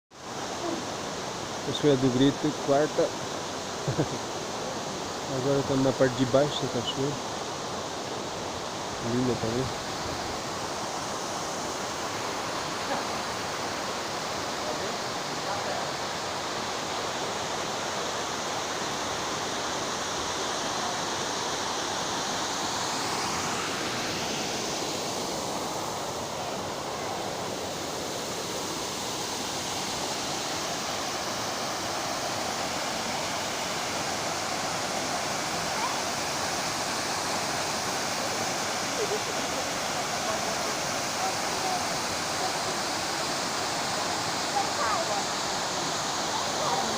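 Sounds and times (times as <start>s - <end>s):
waterfall roaring: 0.2s - 46.9s.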